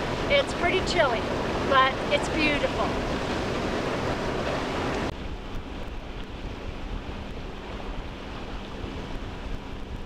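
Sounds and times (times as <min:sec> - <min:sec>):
boat engine humming: 0:00.0 - 0:10.0
light wind: 0:00.0 - 0:10.0
water washing along hull: 0:00.0 - 0:10.0.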